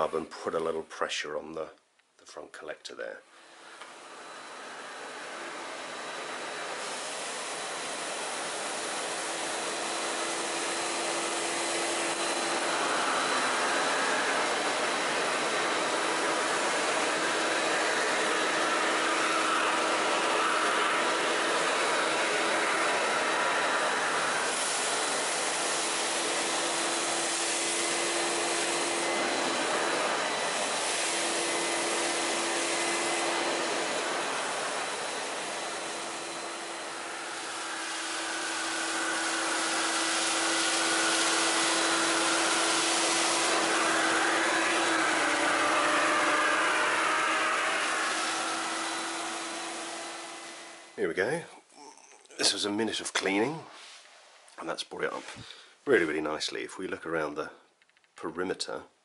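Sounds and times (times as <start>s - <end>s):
carpet cleaner vacuum whoosh: 3.4s - 51.0s.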